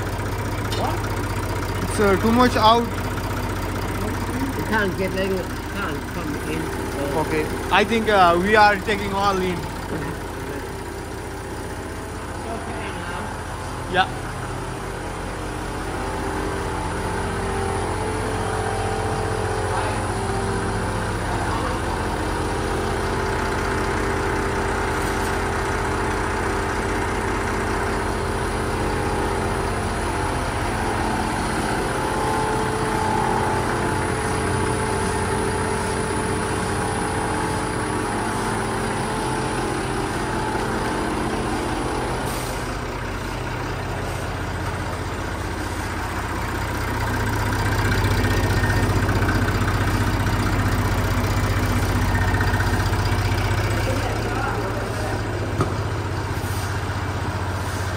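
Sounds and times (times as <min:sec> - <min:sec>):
tractor engine idling: 0:00.0 - 0:57.9.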